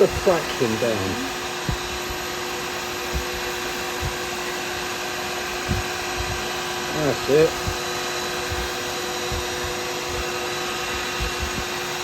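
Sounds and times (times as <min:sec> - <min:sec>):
wood lathe motor hum: 0:00.0 - 0:12.0.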